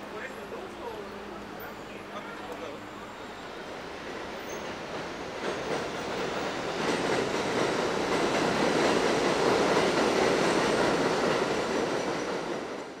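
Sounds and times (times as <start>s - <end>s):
subway train passing on tracks: 0.0s - 13.0s.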